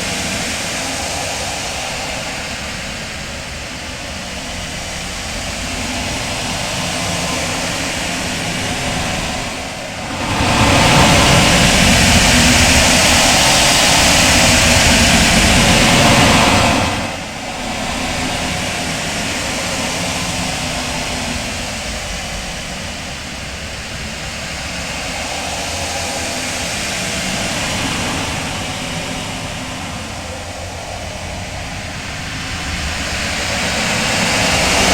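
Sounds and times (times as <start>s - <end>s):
dense noise wash: 0.0s - 34.9s
deep rumble: 0.5s - 34.9s.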